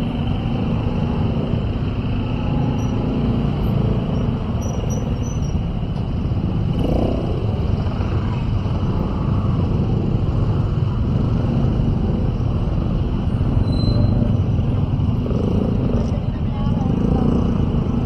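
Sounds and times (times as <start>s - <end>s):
engines in congested traffic: 0.0s - 18.0s.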